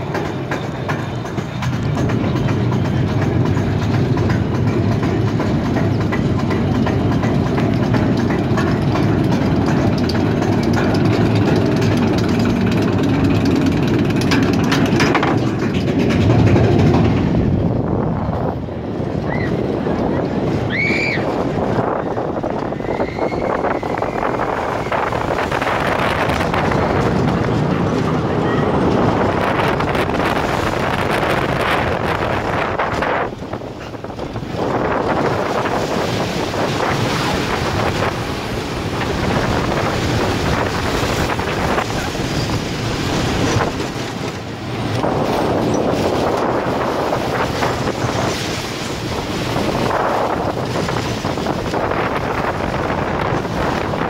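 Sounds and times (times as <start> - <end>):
roller coaster wheels clattering: 0.0 - 54.0
wind rushing over microphone: 0.0 - 54.0.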